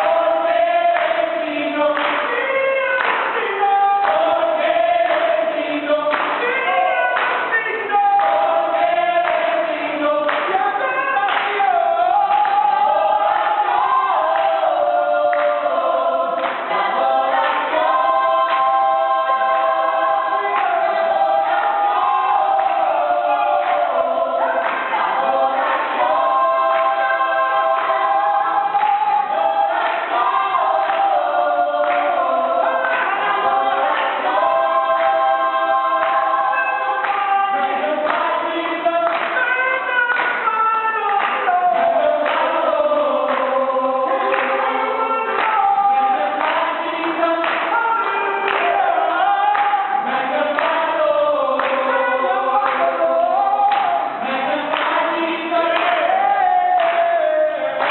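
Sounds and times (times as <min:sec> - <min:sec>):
worship group singing in chorus: 0:00.0 - 0:57.9.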